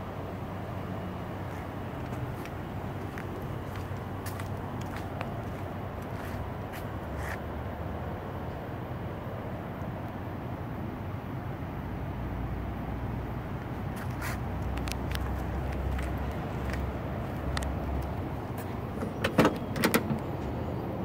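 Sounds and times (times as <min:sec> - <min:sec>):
steady low rumble: 0:00.0 - 0:19.1.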